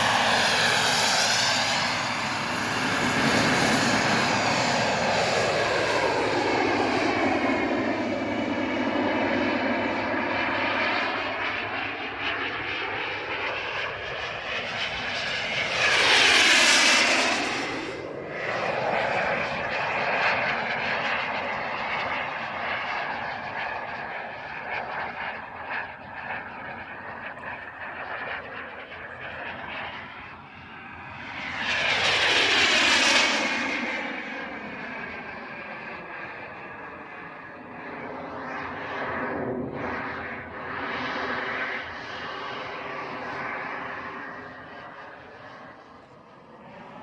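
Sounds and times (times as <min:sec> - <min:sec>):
model jet turbine passing: 0:00.0 - 0:47.0.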